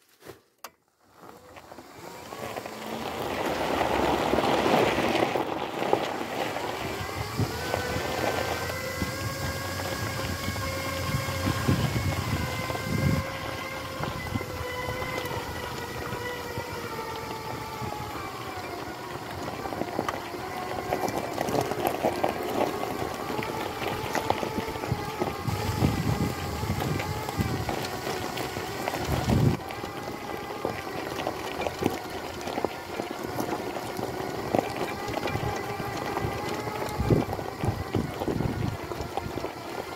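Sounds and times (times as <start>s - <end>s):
tyres crunching over gravel: 0.0s - 39.9s
electric wheelchair motor whine: 1.0s - 39.9s.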